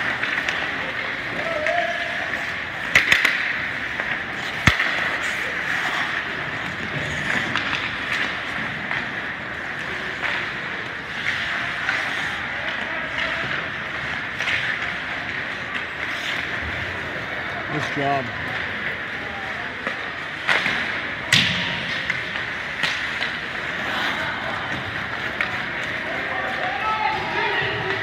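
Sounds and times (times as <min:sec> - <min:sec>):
hockey sticks clacking: 0:00.0 - 0:28.0
skates scraping ice: 0:00.0 - 0:28.0.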